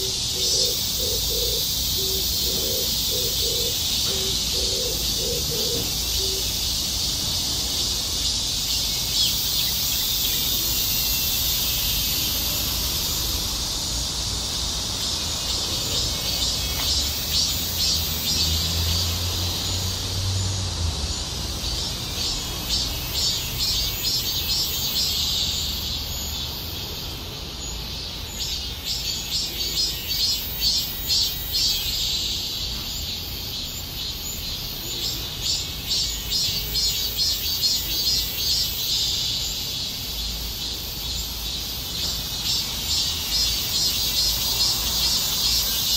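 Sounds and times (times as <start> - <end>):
cicada buzzing: 0.0 - 45.9.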